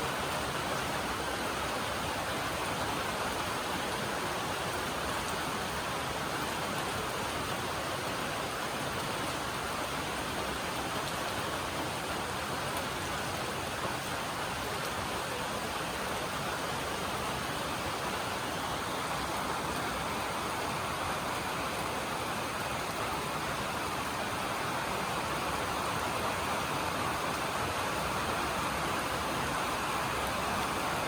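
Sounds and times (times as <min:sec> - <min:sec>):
rain on a metal roof: 0:00.0 - 0:31.0.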